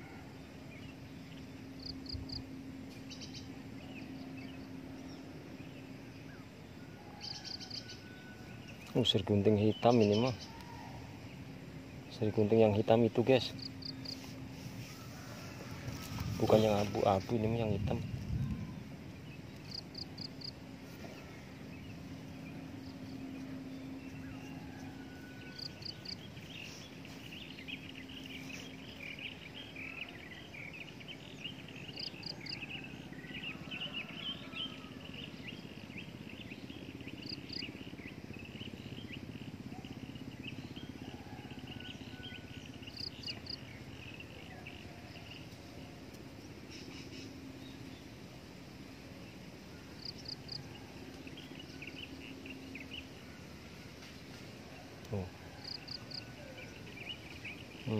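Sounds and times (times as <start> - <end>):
insects chirping in trills: 0.0 - 57.9
low steady hum: 0.0 - 57.9.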